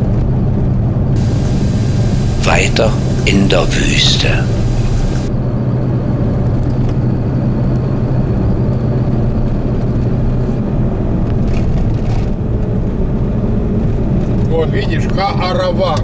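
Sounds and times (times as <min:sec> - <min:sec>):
car engine and road noise: 0:00.0 - 0:16.0
constant low hum: 0:00.1 - 0:16.0.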